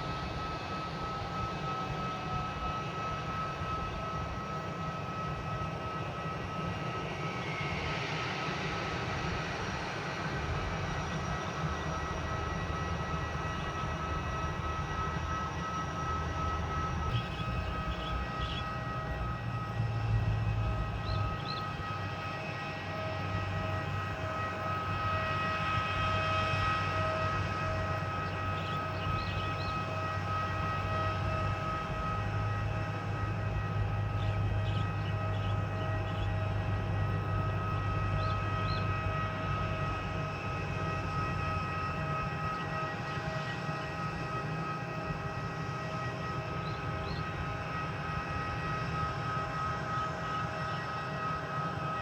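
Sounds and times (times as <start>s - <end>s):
jet engines idling: 0.0s - 52.0s.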